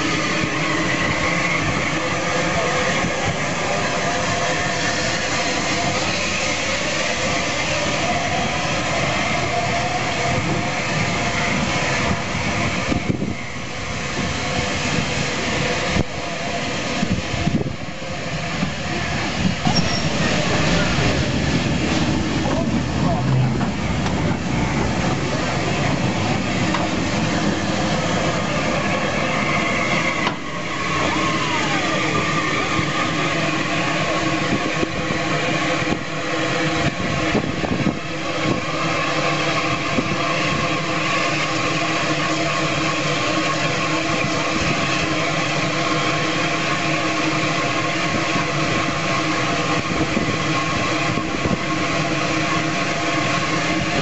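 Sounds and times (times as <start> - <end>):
steam hissing from locomotive: 0.0 - 54.0.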